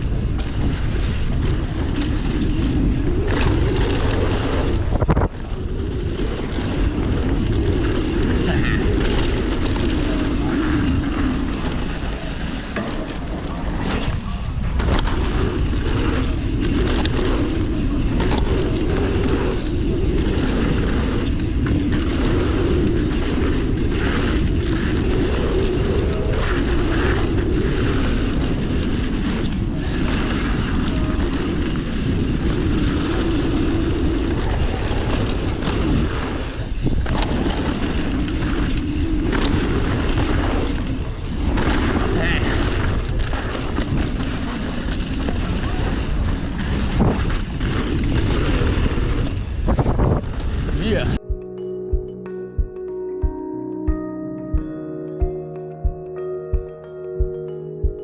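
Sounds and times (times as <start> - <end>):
bike knocking and rattling: 0.0 - 51.0
bike tyres on dirt: 0.0 - 51.2
wind rushing over microphone: 0.0 - 51.4.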